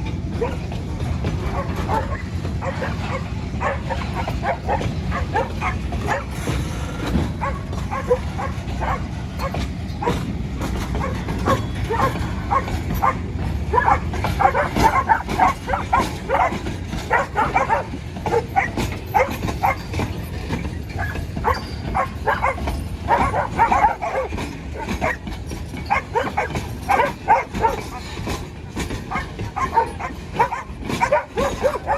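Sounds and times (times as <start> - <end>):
dogs barking and yipping: 0.0 - 31.9.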